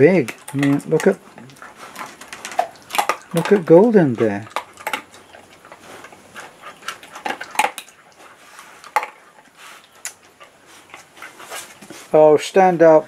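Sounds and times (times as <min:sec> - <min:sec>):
dog chewing food: 0:00.0 - 0:12.2.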